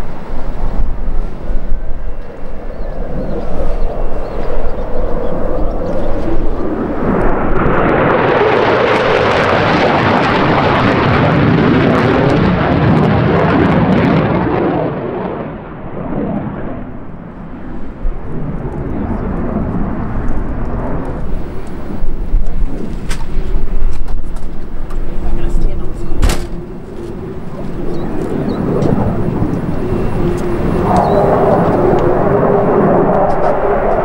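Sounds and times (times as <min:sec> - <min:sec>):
jet fighter flying past: 0:00.0 - 0:34.0.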